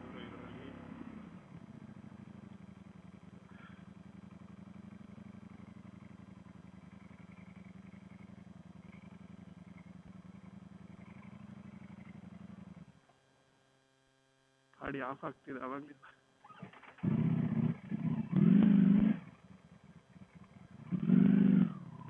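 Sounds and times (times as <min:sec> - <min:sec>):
motorcycle engine running: 0:00.0 - 0:13.0, 0:16.4 - 0:22.0.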